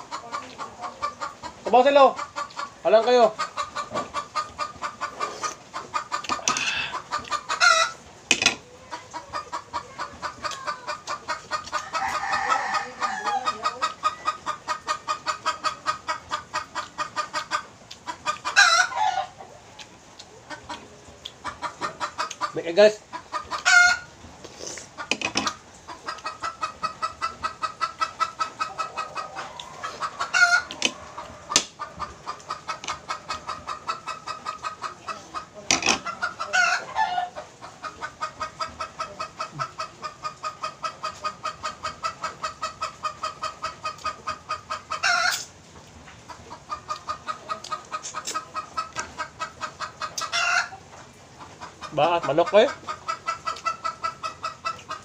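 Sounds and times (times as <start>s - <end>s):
chicken loud calls: 0.0s - 8.0s, 8.9s - 19.5s, 21.4s - 45.5s, 46.3s - 50.9s
chickens clucking: 0.0s - 55.0s.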